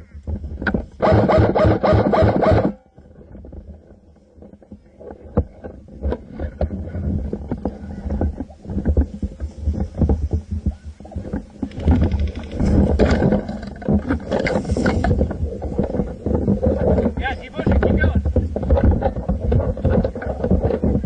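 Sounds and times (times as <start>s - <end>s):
rifle handling knocks and rustling: 3.0s - 20.9s.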